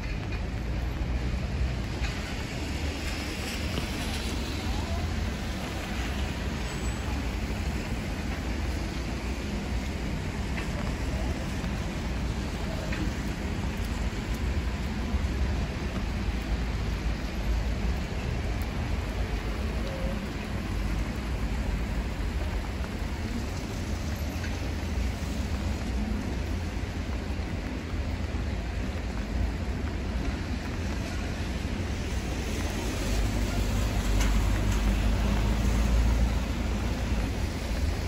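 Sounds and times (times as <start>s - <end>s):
traffic rumble: 0.0s - 38.0s
rain hissing: 0.2s - 38.0s.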